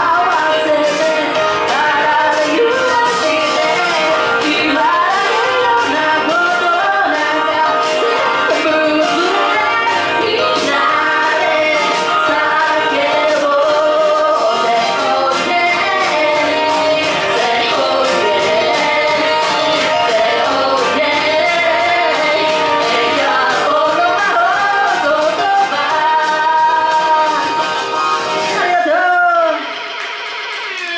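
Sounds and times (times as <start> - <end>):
woman singing into a microphone: 0.0 - 27.8, 28.4 - 29.7
pop backing track: 0.0 - 30.9.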